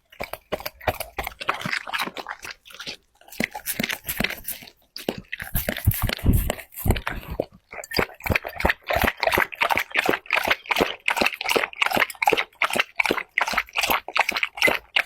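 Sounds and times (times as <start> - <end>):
dog eating and lapping: 0.0 - 15.0.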